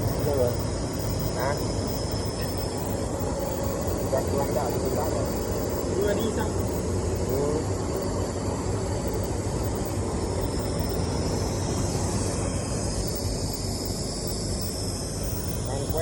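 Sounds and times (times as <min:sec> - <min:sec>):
high hiss: 0:00.0 - 0:16.0
welding machine low hum: 0:00.0 - 0:16.0.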